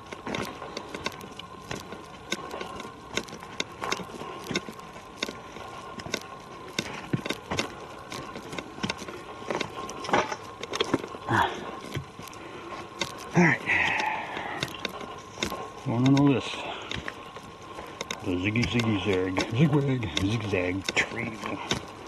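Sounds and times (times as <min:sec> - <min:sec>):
footsteps on leaf litter and twigs: 0:00.0 - 0:22.0.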